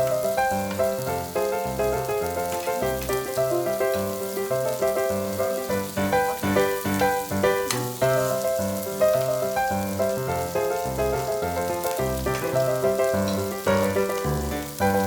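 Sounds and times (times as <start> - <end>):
instrumental background music: 0.0 - 15.0
meat sizzling on a grill: 0.0 - 15.0.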